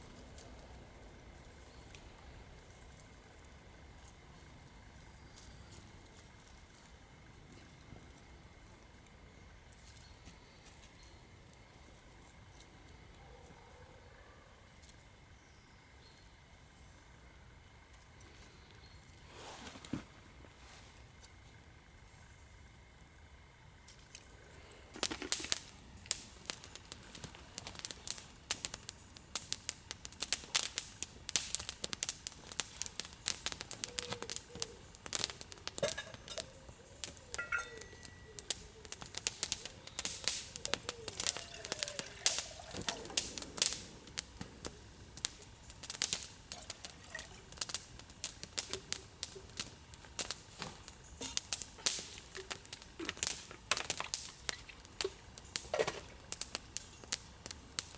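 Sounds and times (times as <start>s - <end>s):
campfire crackling and popping: 0.0s - 13.2s, 14.7s - 19.3s, 20.0s - 57.9s.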